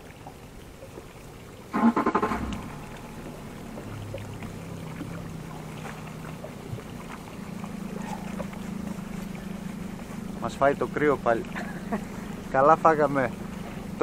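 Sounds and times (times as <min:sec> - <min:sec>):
outboard motor idling: 0:00.0 - 0:14.0.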